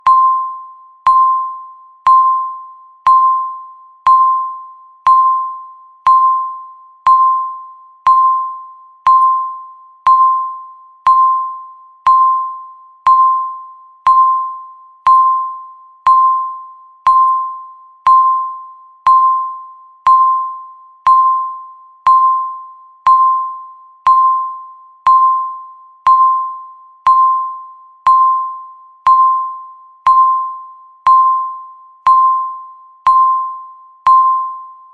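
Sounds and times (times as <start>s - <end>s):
timer beeping: 0.0s - 34.9s.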